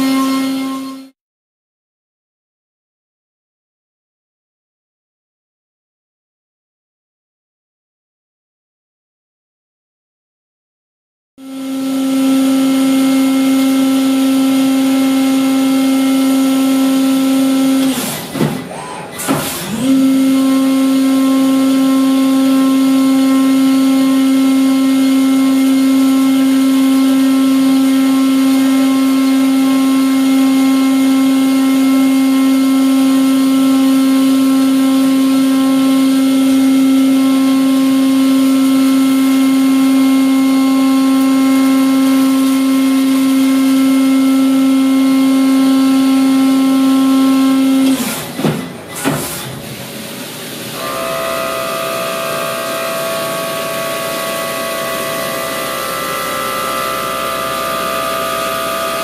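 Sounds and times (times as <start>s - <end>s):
machine spindle whine: 0.0s - 1.2s, 11.4s - 59.0s.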